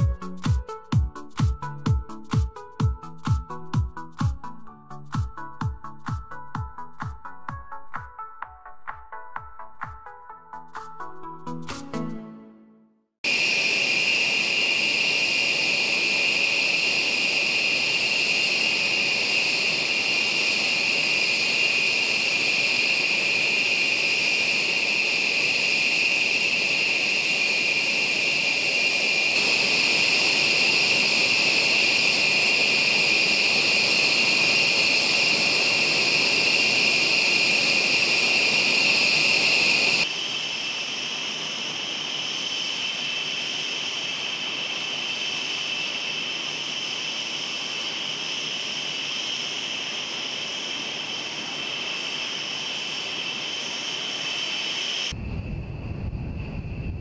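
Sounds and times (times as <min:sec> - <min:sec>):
jet engines idling: 0:00.0 - 0:06.2, 0:13.3 - 0:55.2.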